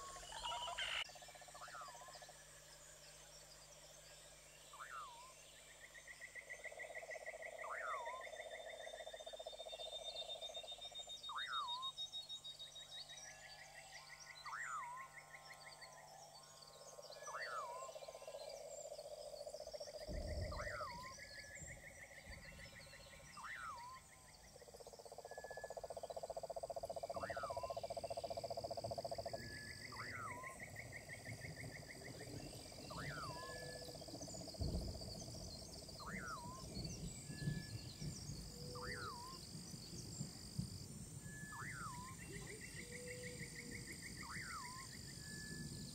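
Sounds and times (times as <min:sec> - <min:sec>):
frogs trilling and croaking: 0:00.0 - 0:45.9.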